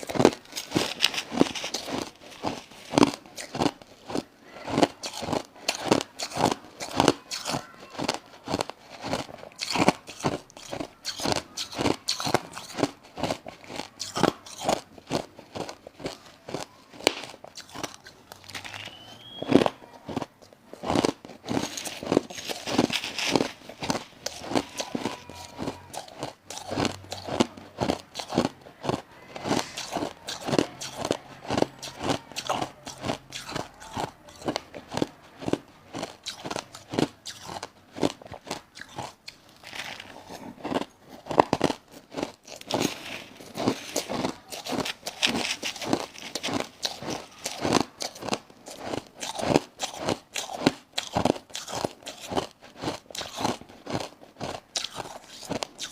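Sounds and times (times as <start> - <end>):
woman chewing crushed ice: 0.0 - 55.9.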